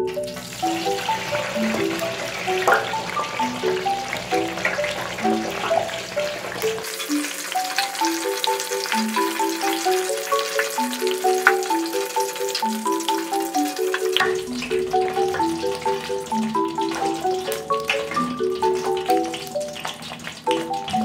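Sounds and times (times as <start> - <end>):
hot oil sizzling and crackling: 0.0 - 21.0
light background tune: 0.0 - 21.0.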